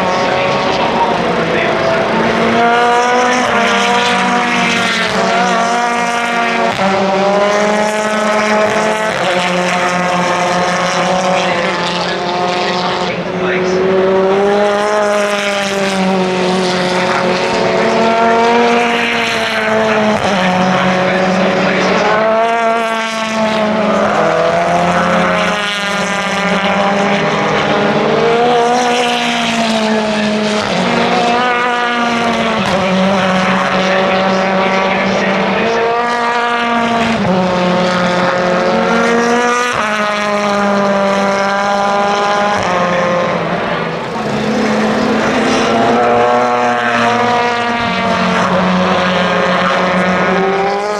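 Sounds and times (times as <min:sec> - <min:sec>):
race car engines revving: 0:00.0 - 0:50.9.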